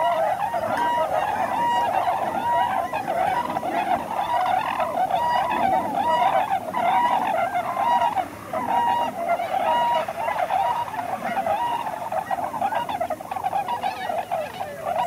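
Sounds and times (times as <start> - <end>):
swans honking: 0.0 - 15.0.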